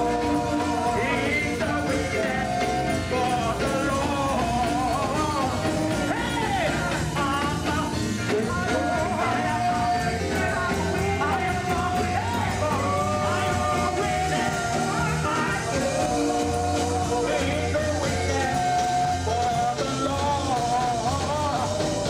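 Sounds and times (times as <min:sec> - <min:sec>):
choir singing: 0:00.0 - 0:06.9, 0:08.3 - 0:20.6
band playing: 0:00.0 - 0:22.0
steady bass: 0:00.0 - 0:22.0.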